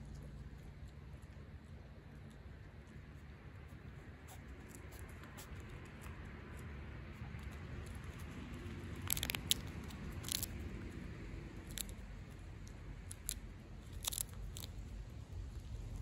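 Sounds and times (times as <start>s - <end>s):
skunk crunching food: 0.0s - 16.0s.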